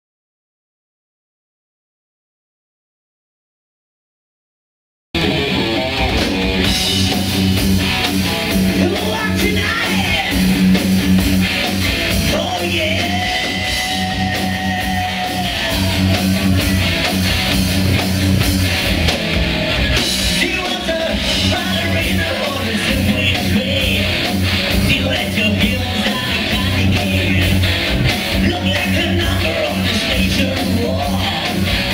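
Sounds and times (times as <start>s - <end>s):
rock band playing live: 5.2s - 31.9s.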